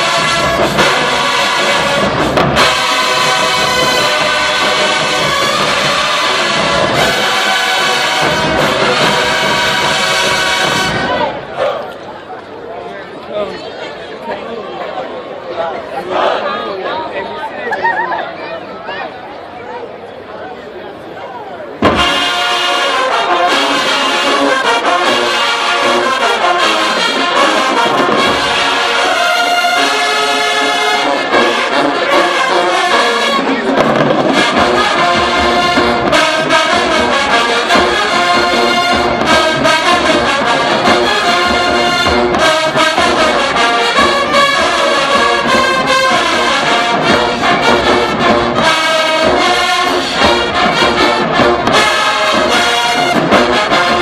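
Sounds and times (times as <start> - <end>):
drumline drumming: 0.0 - 11.4, 21.8 - 54.0
marching band brass playing: 0.0 - 12.0, 21.8 - 54.0.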